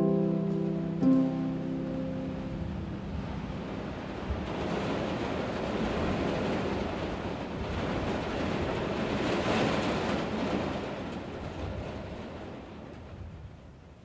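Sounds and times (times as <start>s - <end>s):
rushing wash of noise: 0.0s - 12.7s.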